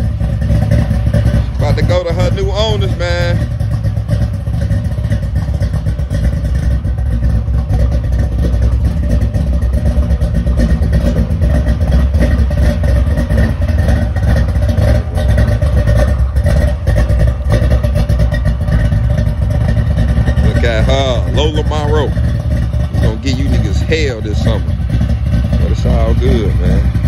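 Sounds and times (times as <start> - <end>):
deep exhaust rumble: 0.0 - 27.0.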